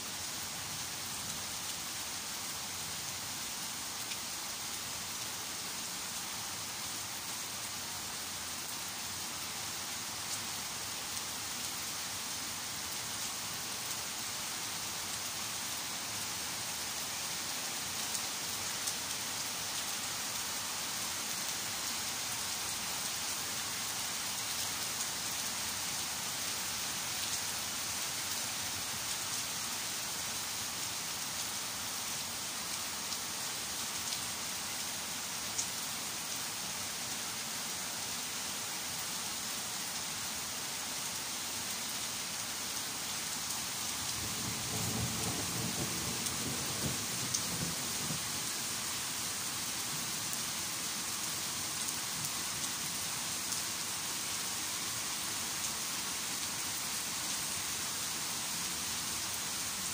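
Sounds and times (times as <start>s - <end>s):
rain on leaves and pavement: 0.0s - 59.9s.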